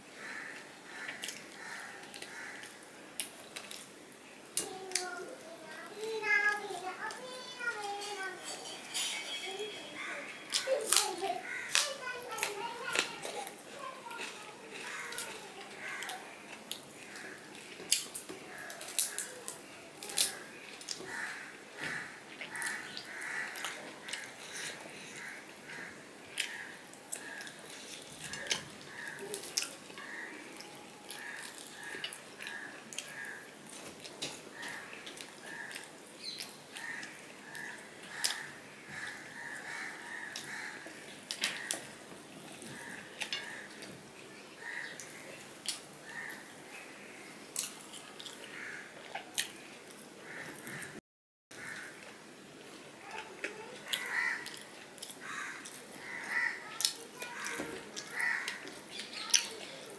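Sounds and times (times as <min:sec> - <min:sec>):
wet chewing: 0:00.6 - 0:04.0, 0:10.0 - 0:46.6, 0:47.4 - 0:50.9, 0:51.6 - 0:59.9.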